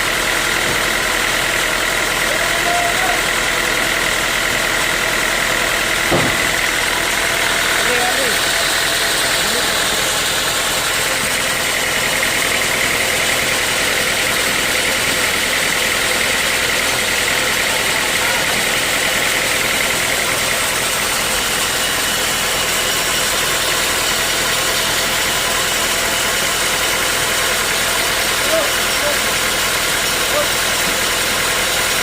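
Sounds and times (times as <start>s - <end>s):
sawmill machinery drone: 0.0s - 32.0s.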